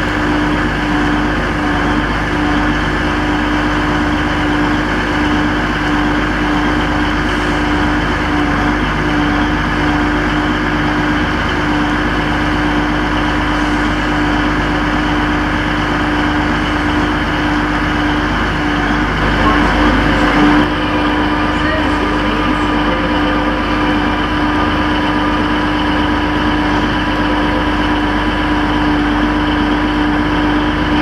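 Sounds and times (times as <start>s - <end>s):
diesel train engine running: 0.0s - 31.0s.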